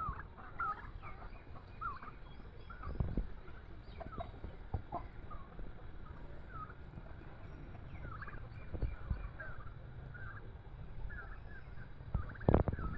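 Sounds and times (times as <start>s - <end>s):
turkeys gobbling: 0.0s - 3.0s, 3.9s - 6.8s, 8.0s - 12.9s.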